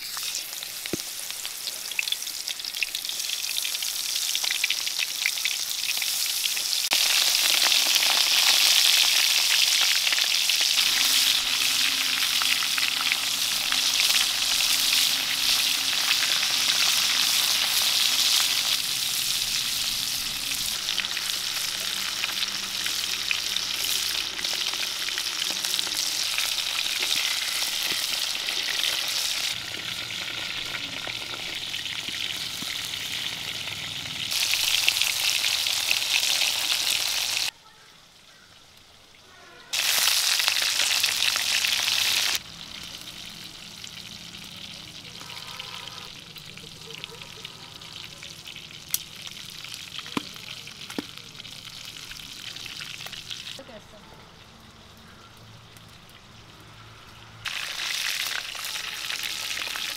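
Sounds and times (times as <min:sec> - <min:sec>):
fish sizzling in hot oil: 0:00.0 - 0:37.5, 0:38.6 - 0:59.9.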